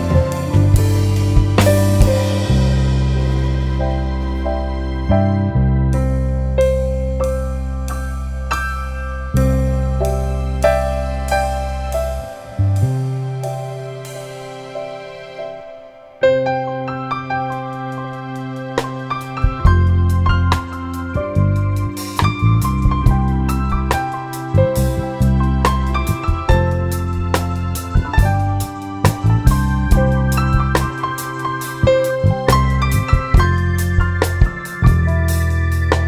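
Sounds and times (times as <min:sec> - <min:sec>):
deep bass notes: 0:00.0 - 0:15.3, 0:17.6 - 0:36.0
slow instrumental music: 0:00.0 - 0:36.0
soft keyboard notes: 0:00.0 - 0:36.0.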